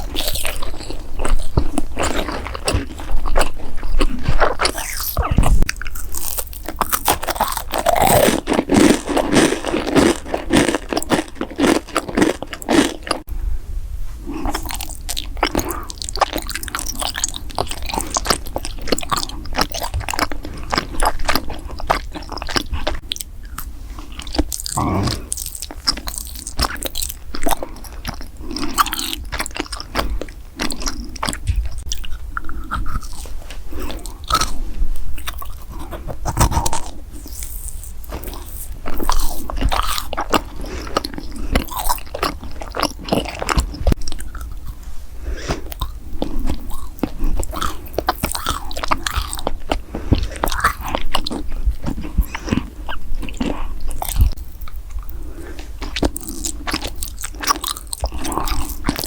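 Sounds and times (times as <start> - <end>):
wet mouth sounds: 0.0 - 13.2, 14.3 - 59.0
chewing crunchy food: 0.0 - 13.3, 14.2 - 59.0.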